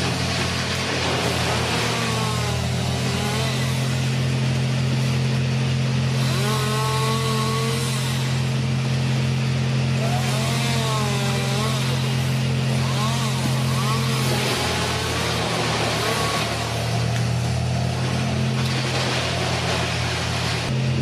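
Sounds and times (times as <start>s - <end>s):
chainsaw cutting branches: 0.0s - 21.0s.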